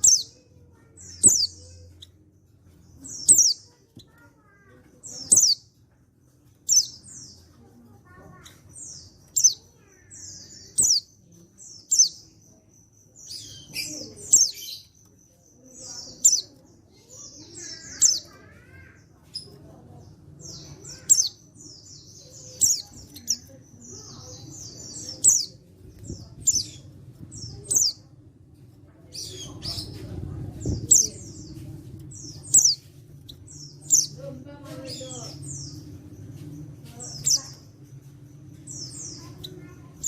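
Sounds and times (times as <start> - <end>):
buzzy bird chattering: 0.0 - 5.8, 6.5 - 40.0.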